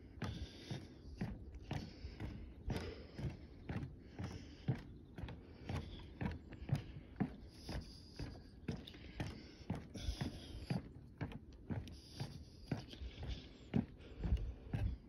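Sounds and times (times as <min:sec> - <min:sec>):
footsteps on wooden boardwalk: 0:00.0 - 0:15.0.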